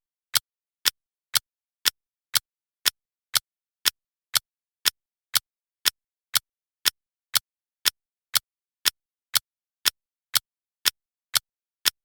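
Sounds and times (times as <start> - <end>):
timer ticking: 0.3 - 12.0.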